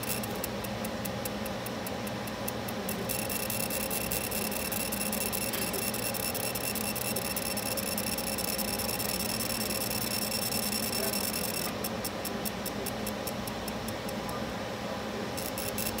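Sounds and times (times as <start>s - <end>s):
fast high ticking: 0.0s - 14.2s, 15.4s - 16.0s
machine hum with high whine: 0.0s - 16.0s.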